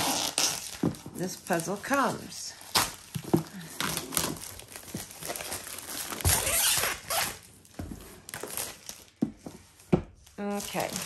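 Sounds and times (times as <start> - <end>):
cellophane crackling rustle: 0.0 - 9.2, 10.2 - 11.0.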